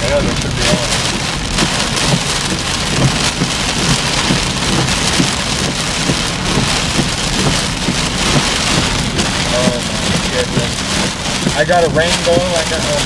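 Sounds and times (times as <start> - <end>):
heavy rain pelting a car: 0.0 - 13.0.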